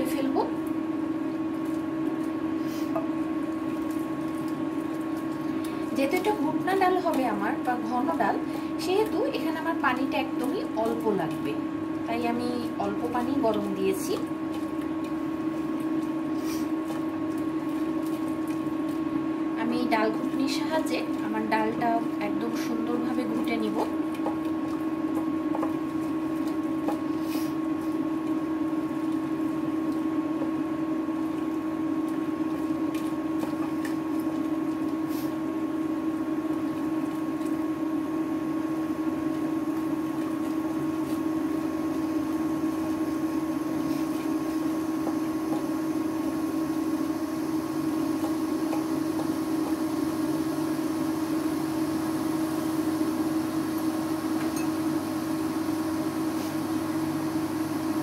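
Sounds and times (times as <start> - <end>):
induction cooktop humming: 0.0 - 58.0.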